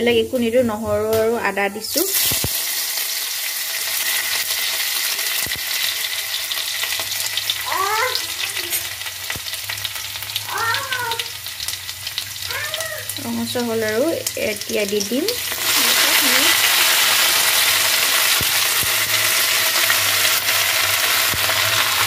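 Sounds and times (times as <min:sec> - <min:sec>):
garlic sizzling in hot oil: 0:01.6 - 0:22.0.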